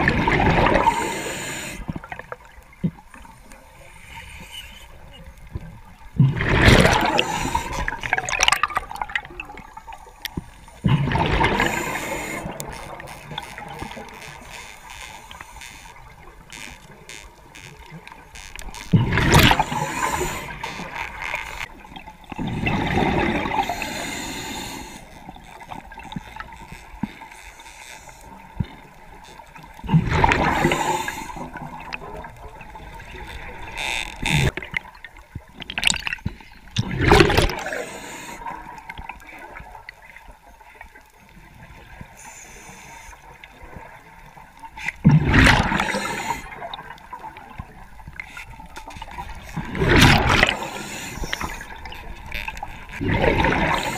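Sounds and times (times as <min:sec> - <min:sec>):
exhaled bubbles gurgling: 0:00.0 - 0:03.0, 0:05.8 - 0:27.0, 0:28.4 - 0:36.2, 0:36.8 - 0:39.8, 0:45.0 - 0:53.9
underwater water noise: 0:00.0 - 0:53.9.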